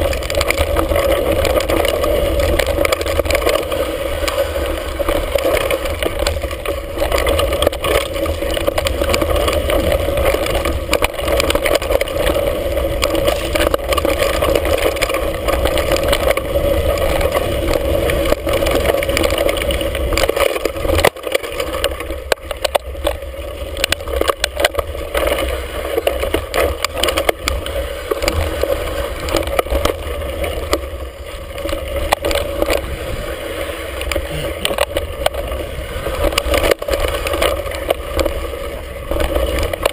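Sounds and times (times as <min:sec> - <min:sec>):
bike knocks and rattles: 0:00.0 - 0:39.9
wind and tyre noise: 0:00.0 - 0:39.9.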